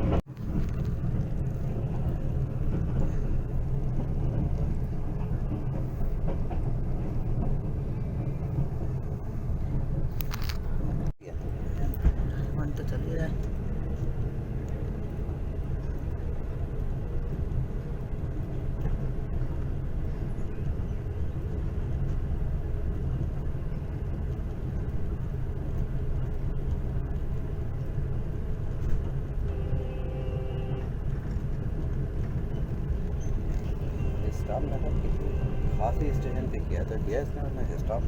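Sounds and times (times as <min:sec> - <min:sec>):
train rumbling on track: 0:00.0 - 0:38.0.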